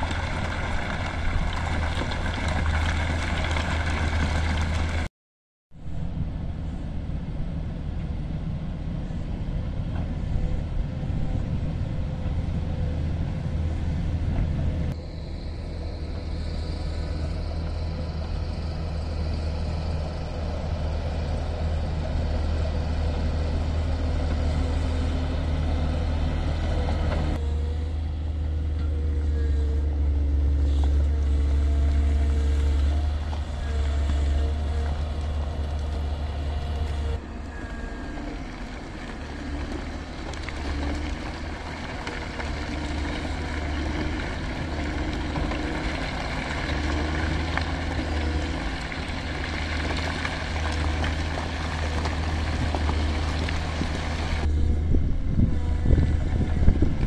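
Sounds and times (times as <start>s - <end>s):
diesel engine droning: 0.0s - 5.1s, 5.8s - 57.0s.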